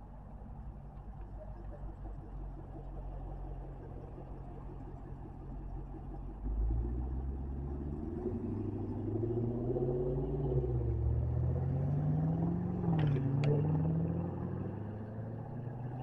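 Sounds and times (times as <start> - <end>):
car engine rumbling and revving: 0.0 - 16.0.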